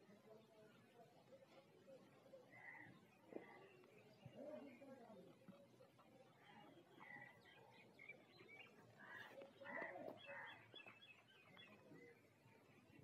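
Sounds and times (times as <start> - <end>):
faint small birds chirping: 0.2 - 13.0.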